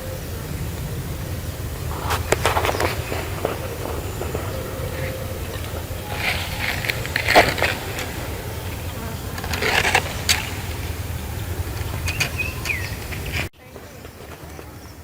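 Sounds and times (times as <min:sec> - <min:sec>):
quick high bird chirps: 0:00.0 - 0:13.5
low buzz like flying insects: 0:00.0 - 0:15.0.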